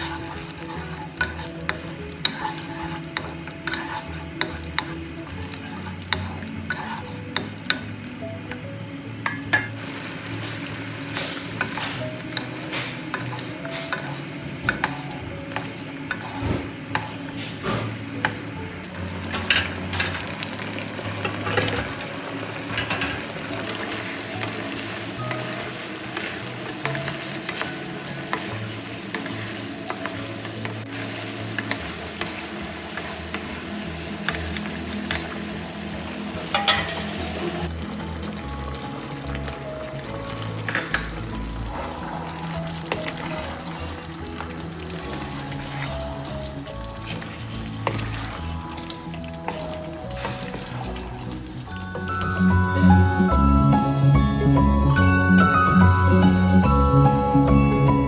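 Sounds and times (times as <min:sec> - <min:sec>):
spatula scraping a wok: 0:00.0 - 0:07.9, 0:10.2 - 0:18.4, 0:19.1 - 0:37.7, 0:40.2 - 0:52.8
sauce sizzling and bubbling: 0:00.0 - 0:57.3.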